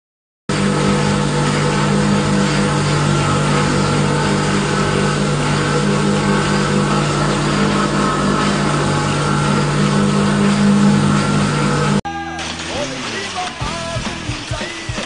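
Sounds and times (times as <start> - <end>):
motor hum: 0.5 - 14.4.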